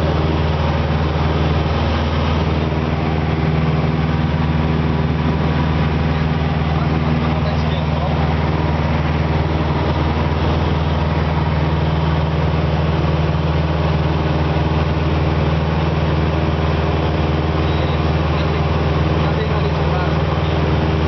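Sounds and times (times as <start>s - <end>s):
light aircraft engine hum: 0.0s - 21.0s.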